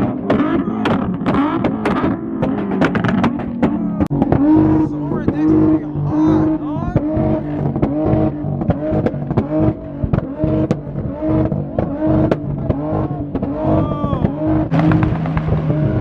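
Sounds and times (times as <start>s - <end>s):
car engines revving: 0.0s - 16.0s
sharp exhaust cracks: 0.0s - 16.0s.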